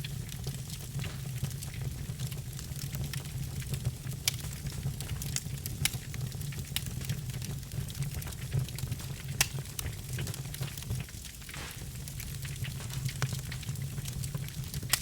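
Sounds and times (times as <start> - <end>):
logs crackling in a fire: 0.0 - 15.0
low rumble of fire: 0.0 - 15.0.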